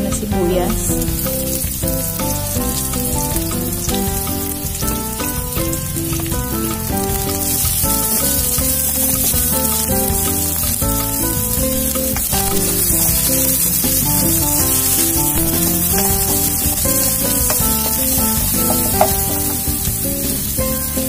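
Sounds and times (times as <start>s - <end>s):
background music: 0.0s - 21.0s
onions sizzling in hot oil: 0.5s - 21.0s.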